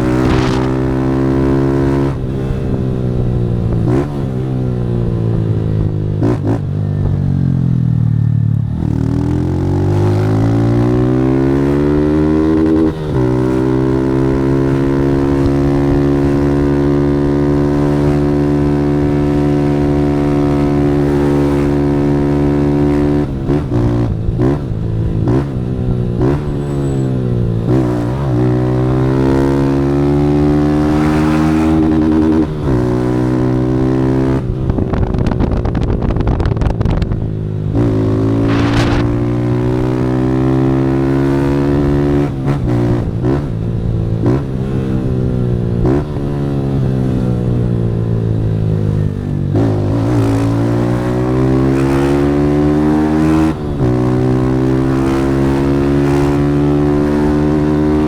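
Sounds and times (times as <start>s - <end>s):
motorcycle engine revving hard: 0.0s - 6.9s, 8.8s - 58.0s.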